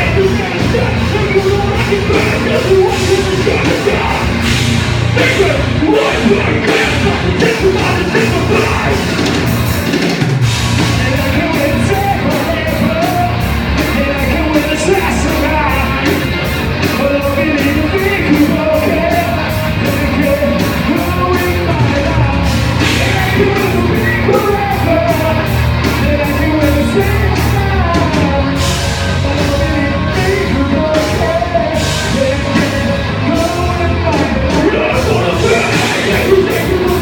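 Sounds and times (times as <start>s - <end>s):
sung and shouted vocals: 0.0s - 9.6s, 16.9s - 37.0s
live rock band playing: 0.0s - 37.0s.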